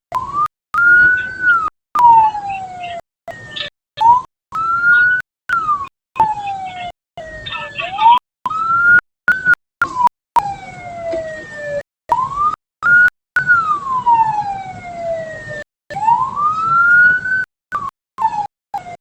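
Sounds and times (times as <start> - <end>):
electronic wail siren: 0.1 - 19.0.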